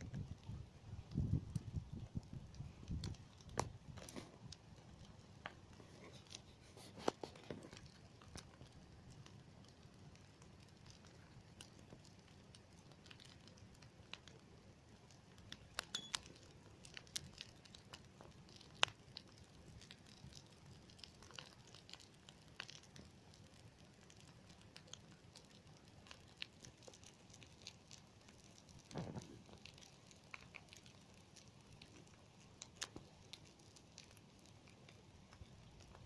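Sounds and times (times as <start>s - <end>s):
campfire crackling: 0.0s - 36.0s
fire pops: 0.0s - 36.0s.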